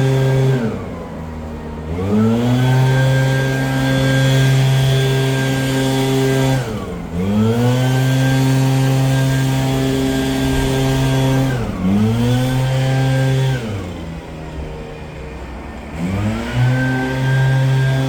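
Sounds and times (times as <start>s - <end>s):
leaf blower engine revving: 0.0s - 18.0s.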